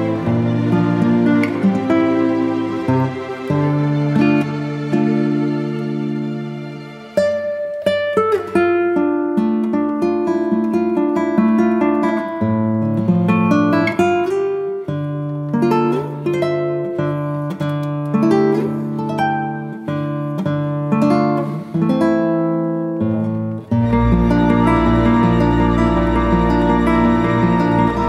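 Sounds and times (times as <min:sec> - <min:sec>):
plucked acoustic guitar melody: 0:00.0 - 0:28.0.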